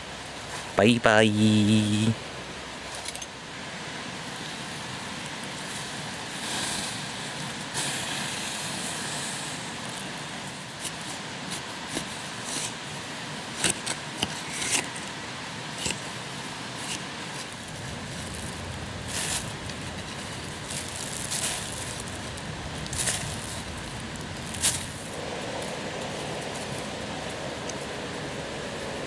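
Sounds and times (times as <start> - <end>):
steady hiss: 0.0 - 13.6, 14.5 - 29.0
campfire embers crackling: 1.2 - 14.2, 14.9 - 26.7.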